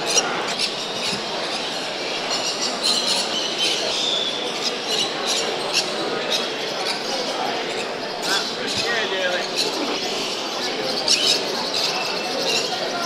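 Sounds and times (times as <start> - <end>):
birds chirping and squawking: 0.0 - 13.0
crowd murmur: 0.0 - 13.0.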